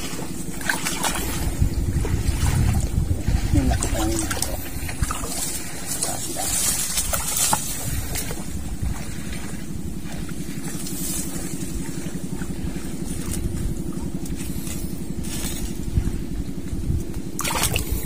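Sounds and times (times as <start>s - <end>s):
small engine droning: 0.0s - 18.0s.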